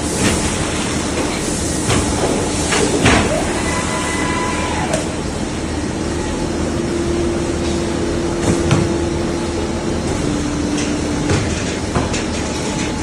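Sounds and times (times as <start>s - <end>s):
industrial machine running: 0.0s - 13.0s
machine hum: 0.0s - 13.0s.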